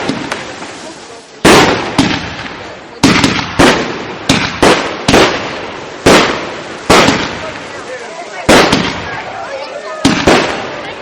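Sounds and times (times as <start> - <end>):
firework shells bursting: 0.0 - 9.4.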